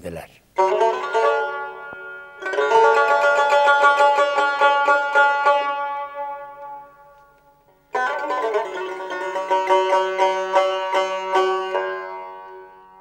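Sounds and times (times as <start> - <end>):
plucked string instrument: 0.6 - 13.0.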